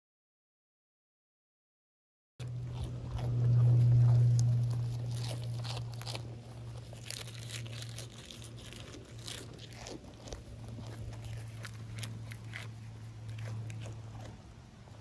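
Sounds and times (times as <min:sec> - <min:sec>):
goat chewing crunchy leaves: 0:02.4 - 0:15.0
steady low hum: 0:02.4 - 0:15.0.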